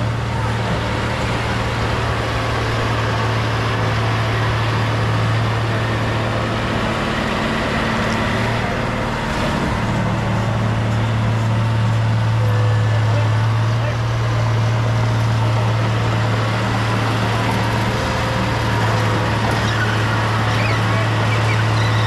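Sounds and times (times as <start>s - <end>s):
heavy diesel engine droning: 0.0s - 22.0s.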